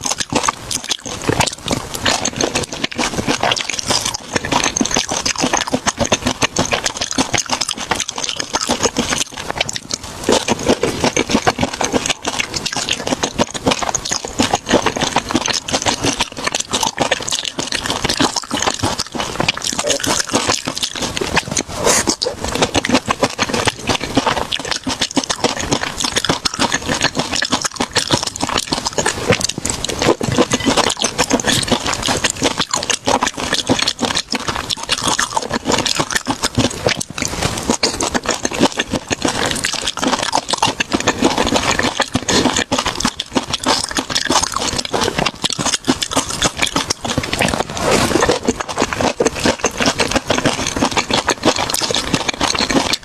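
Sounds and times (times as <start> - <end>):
crunching and chewing food: 0.0 - 53.0.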